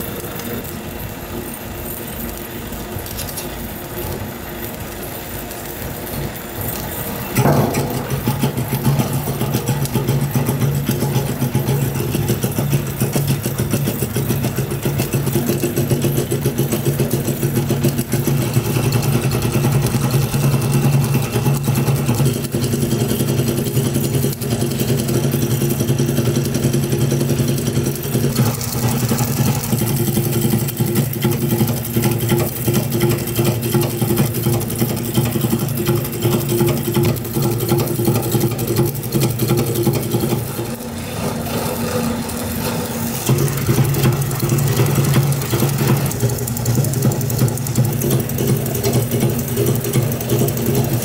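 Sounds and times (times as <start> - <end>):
processing machinery humming: 0.0 - 51.0
dense mechanical rattle: 5.3 - 51.0.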